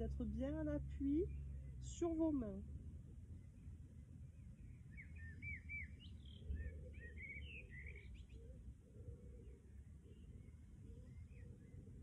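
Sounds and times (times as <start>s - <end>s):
low background noise: 0.0s - 12.0s
songbird chirping: 0.0s - 12.0s.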